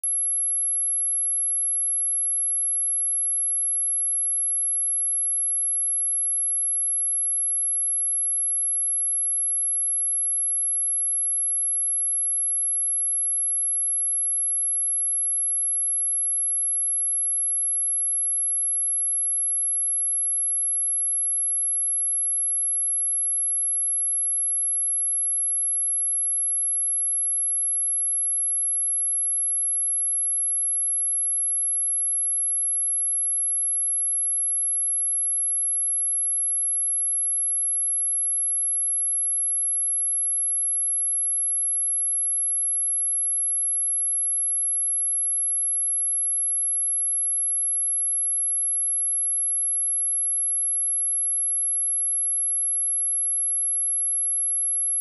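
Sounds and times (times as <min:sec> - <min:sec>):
high-pitched sine-wave test tone: 0:00.0 - 0:55.0.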